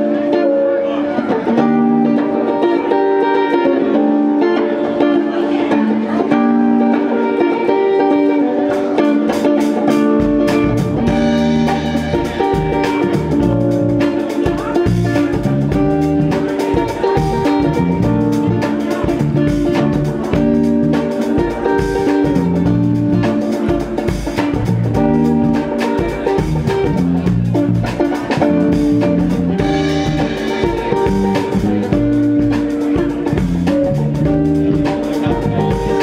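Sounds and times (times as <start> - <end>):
drum kit: 0.0 - 36.0
electric guitar: 0.0 - 36.0.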